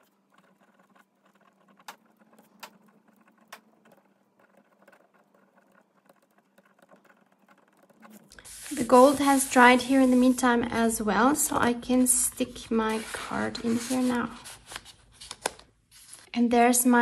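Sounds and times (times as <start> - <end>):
pen scratching on card: 0.0 - 10.6, 12.7 - 16.3.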